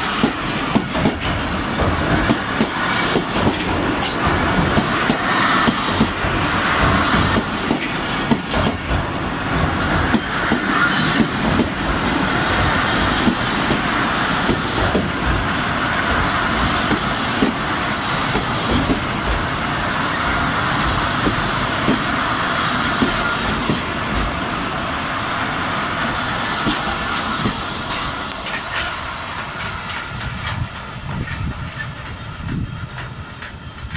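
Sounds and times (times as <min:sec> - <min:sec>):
wheels clacking over rail joints: 0:00.0 - 0:24.6, 0:25.6 - 0:33.9
train wheels rumbling on rails: 0:00.0 - 0:33.9.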